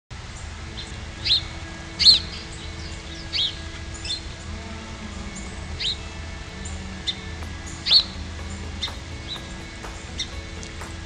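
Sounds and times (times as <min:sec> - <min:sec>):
songbird chirping: 0:00.7 - 0:11.0.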